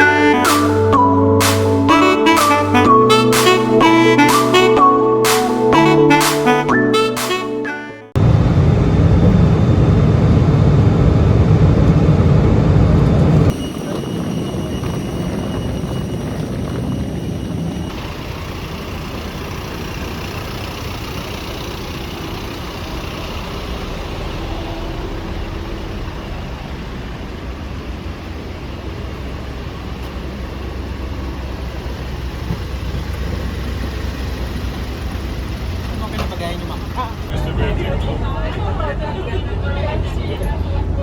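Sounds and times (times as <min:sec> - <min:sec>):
vehicle engine rumble: 0:08.2 - 0:41.0.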